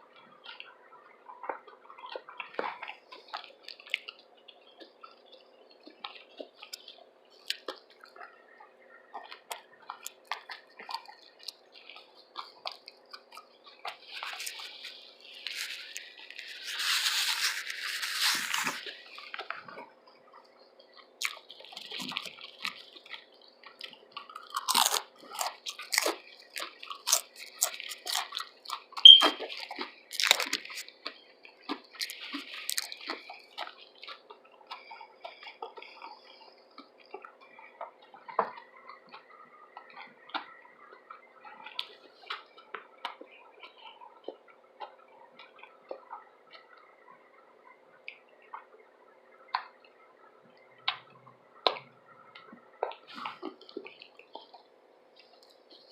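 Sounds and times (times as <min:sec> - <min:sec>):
chewing sandwich: 0:00.0 - 0:55.9.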